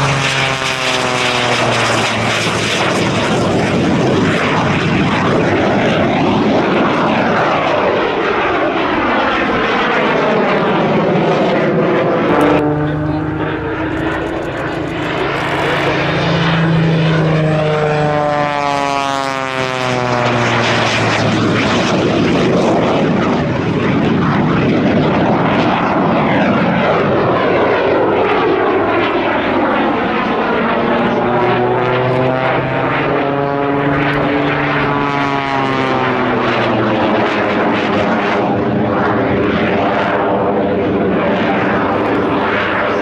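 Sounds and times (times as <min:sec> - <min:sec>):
propeller airplane droning past: 0:00.0 - 0:43.0.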